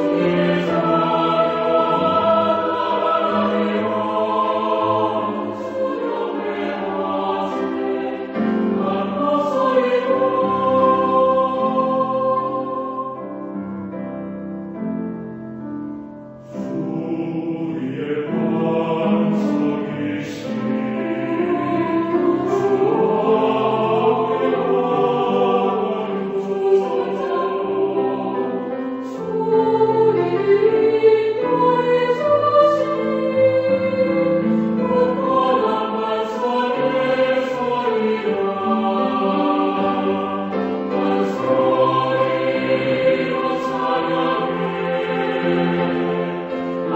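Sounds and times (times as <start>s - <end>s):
mixed choir singing: 0.0s - 13.7s, 16.4s - 46.9s
piano: 0.0s - 46.9s.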